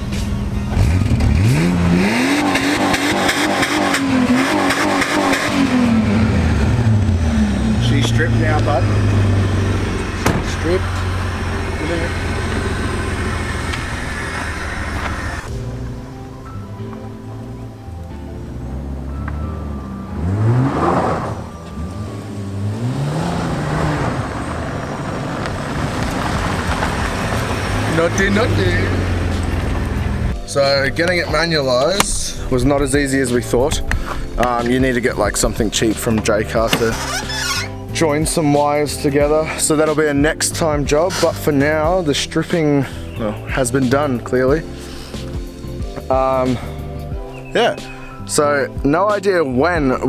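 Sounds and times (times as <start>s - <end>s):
car engine revving: 0.0s - 48.5s.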